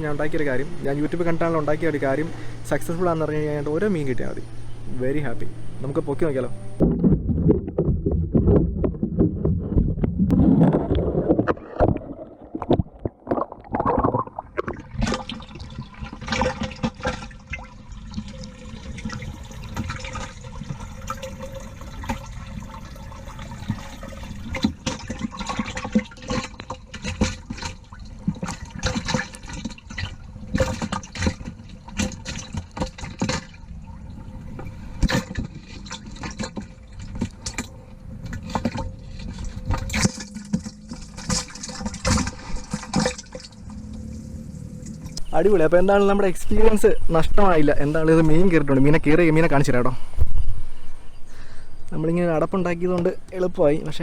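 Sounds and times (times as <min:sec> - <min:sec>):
underwater low hum: 0:00.0 - 0:53.7
water churning and sloshing: 0:00.0 - 0:54.0.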